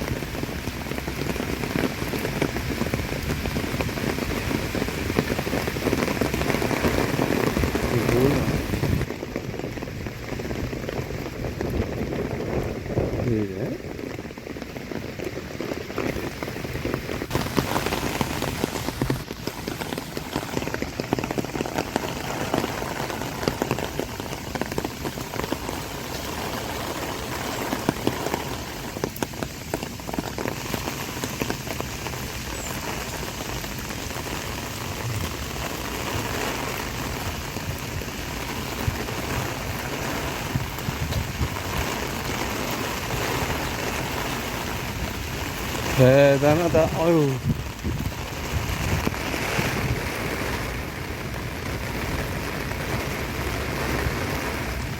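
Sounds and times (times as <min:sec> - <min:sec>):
heavy rain spatter: 0:00.0 - 0:54.9.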